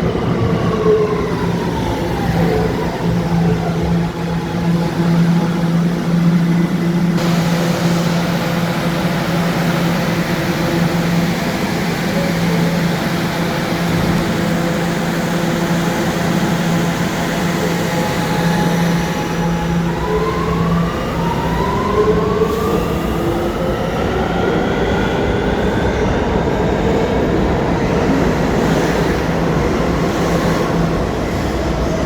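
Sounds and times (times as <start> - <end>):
subway train equipment hum: 0.0 - 32.0.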